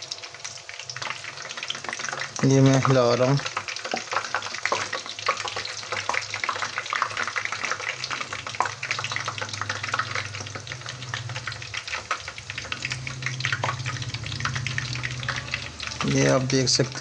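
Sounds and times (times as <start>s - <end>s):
low steady hum: 0.0s - 17.0s
oil sizzling and crackling: 0.0s - 17.0s.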